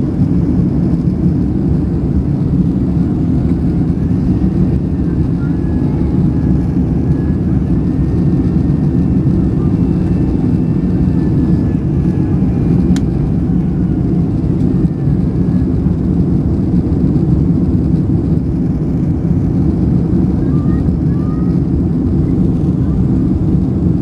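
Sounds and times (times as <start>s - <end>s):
airplane cabin engine noise: 0.0s - 24.0s.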